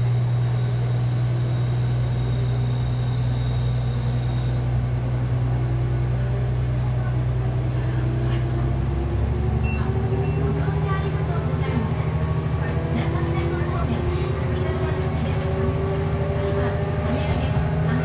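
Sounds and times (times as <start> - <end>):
diesel railcar engine drone: 0.0 - 18.0.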